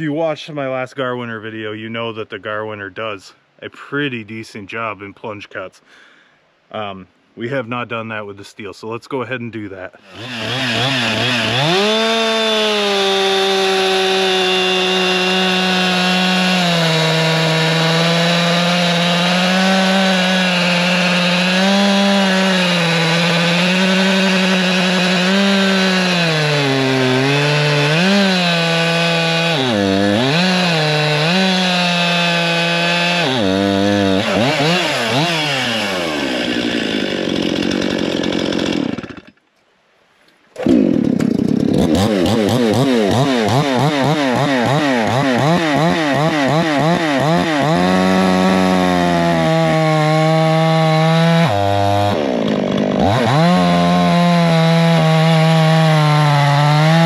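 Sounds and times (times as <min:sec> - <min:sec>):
chainsaw cutting log: 0:10.0 - 0:39.4, 0:40.5 - 0:57.0.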